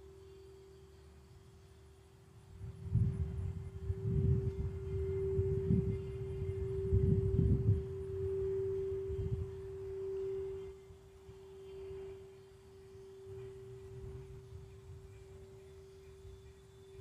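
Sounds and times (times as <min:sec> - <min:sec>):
singing bowl ringing: 0:00.0 - 0:17.0.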